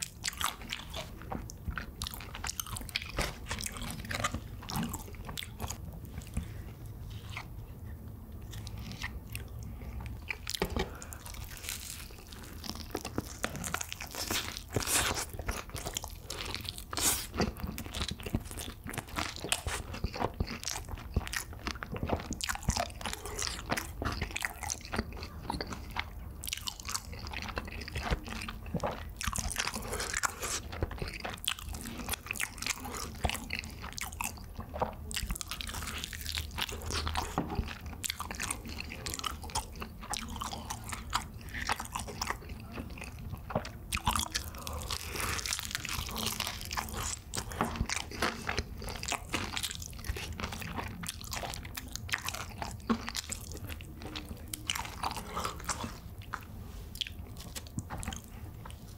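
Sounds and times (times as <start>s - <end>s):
crunching and chewing fried chicken: 0.0s - 58.9s.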